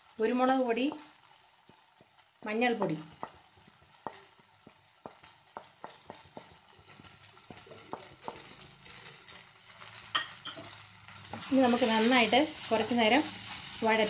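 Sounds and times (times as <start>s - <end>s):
faint sizzling in a pan: 0.0s - 14.0s.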